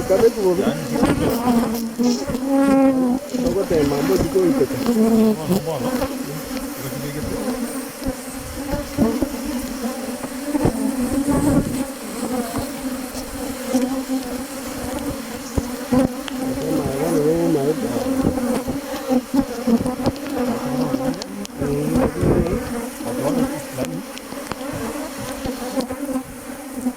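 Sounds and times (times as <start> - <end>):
bees buzzing: 0.0 - 26.9.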